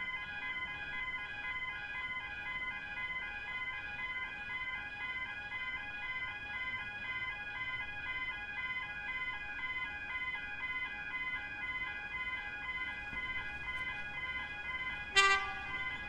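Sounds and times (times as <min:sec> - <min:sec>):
level crossing alarms ringing: 0:00.0 - 0:16.0.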